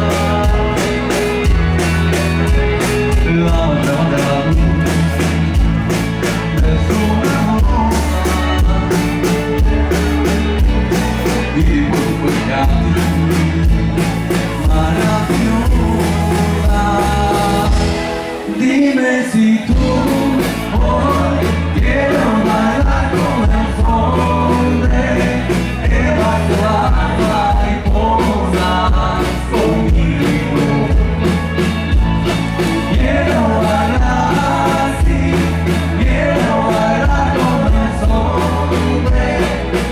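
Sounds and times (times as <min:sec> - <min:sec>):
bass guitar: 0:00.0 - 0:39.9
drums: 0:00.0 - 0:39.9
person singing: 0:00.0 - 0:39.9.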